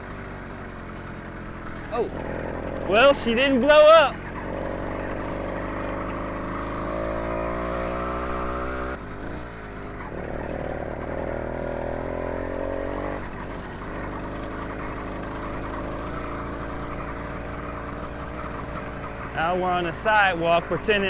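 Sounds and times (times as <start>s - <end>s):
two-stroke engine under throttle: 0.0s - 21.0s.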